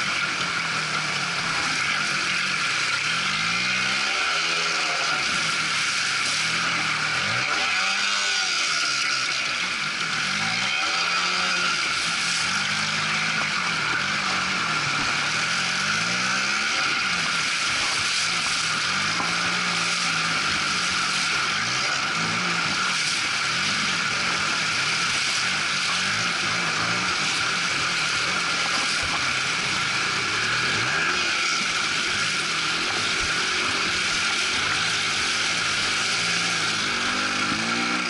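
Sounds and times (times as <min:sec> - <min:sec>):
quad bike engine revving: 0:00.0 - 0:38.0.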